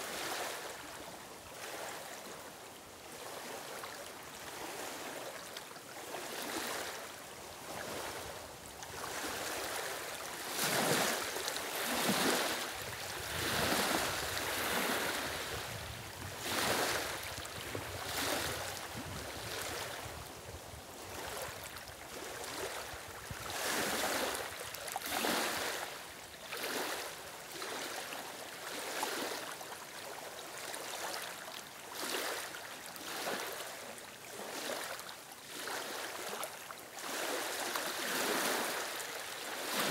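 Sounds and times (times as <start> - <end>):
small waves lapping over stones: 0.0 - 20.3, 21.0 - 39.9.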